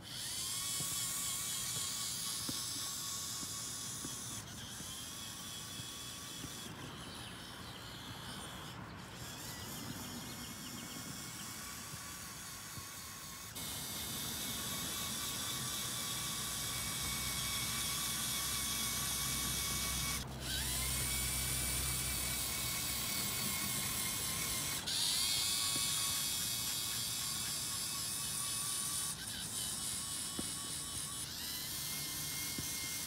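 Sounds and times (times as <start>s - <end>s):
electric motors whining: 0.0s - 33.0s.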